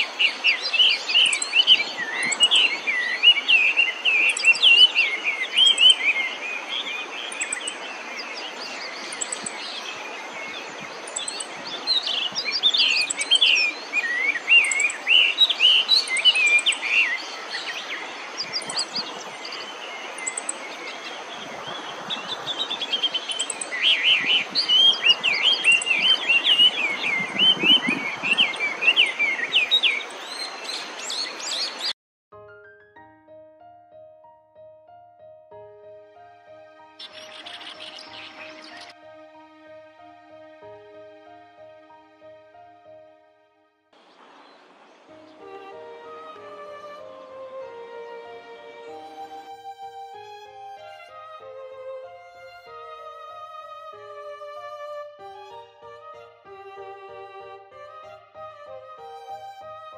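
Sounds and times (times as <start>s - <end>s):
birds singing: 0.0s - 32.0s, 37.0s - 39.2s, 44.0s - 59.9s.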